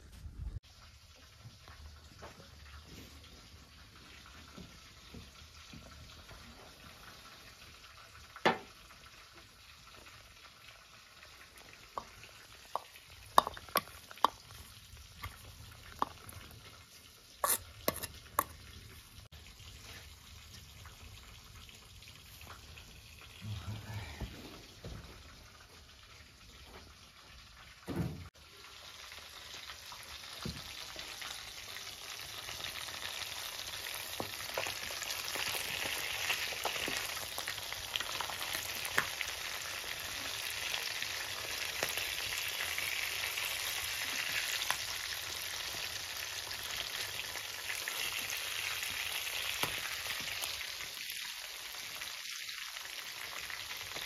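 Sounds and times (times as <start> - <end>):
fish sizzling in oil: 0.6 - 24.0, 24.6 - 54.0.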